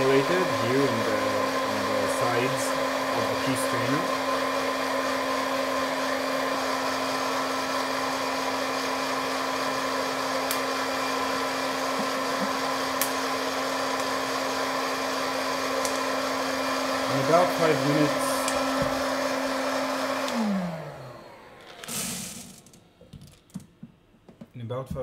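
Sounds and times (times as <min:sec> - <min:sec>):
popcorn popper fan humming: 0:00.0 - 0:22.9.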